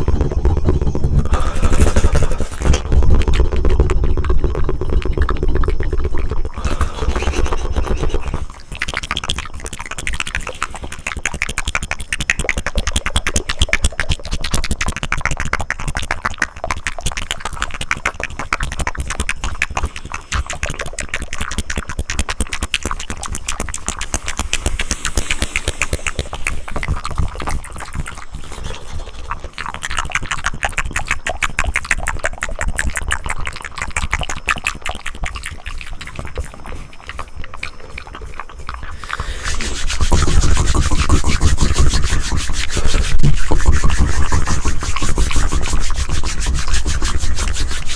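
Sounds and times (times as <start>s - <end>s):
tongue fluttering: 0.0s - 47.9s
wet tongue clicks: 0.0s - 47.9s.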